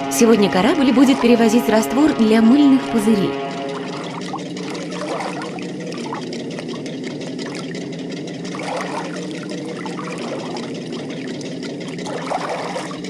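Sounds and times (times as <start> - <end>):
water flowing and gurgling: 0.0 - 13.0.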